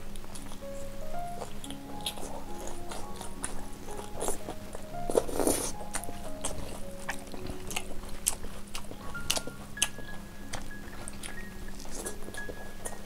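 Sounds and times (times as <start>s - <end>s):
wet chewing and lip-smacking: 0.0s - 0.8s, 1.4s - 13.0s
background music: 0.0s - 13.0s.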